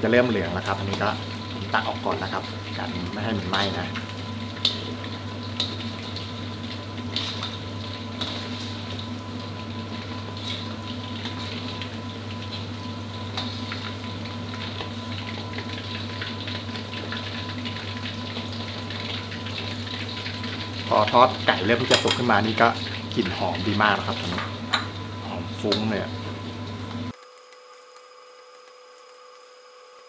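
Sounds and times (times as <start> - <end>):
oil sizzling: 0.0 - 30.0.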